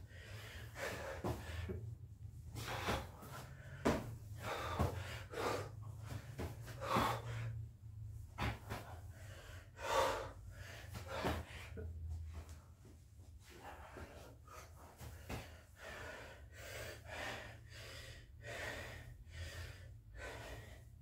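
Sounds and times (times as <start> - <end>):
man panting and gasping: 0.0 - 12.5, 13.5 - 21.0.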